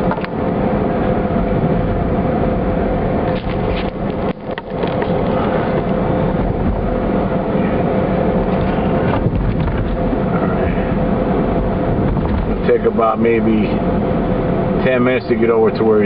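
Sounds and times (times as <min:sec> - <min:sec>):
faint steady hum: 0:00.0 - 0:16.0
road and engine noise: 0:00.0 - 0:16.0.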